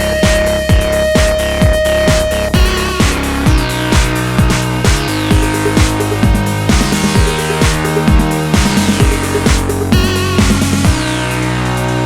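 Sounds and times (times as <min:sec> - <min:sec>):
deep bass kicks: 0:00.0 - 0:12.0
electronic dance music: 0:00.0 - 0:12.0.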